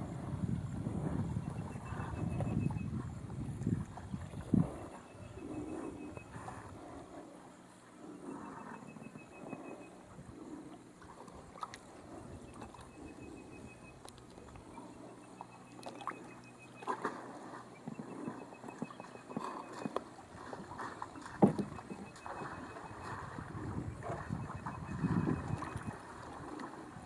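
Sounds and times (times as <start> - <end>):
water lapping: 0.0 - 27.0.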